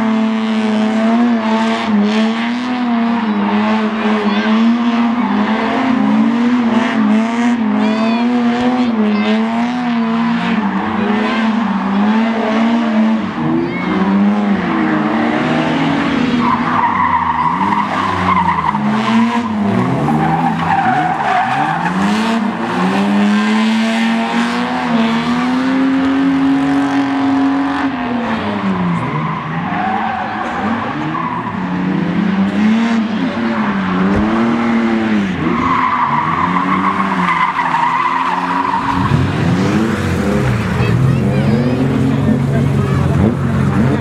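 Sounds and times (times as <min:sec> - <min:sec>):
car engines revving: 0:00.0 - 0:44.0
tyres squealing and skidding: 0:00.0 - 0:44.0.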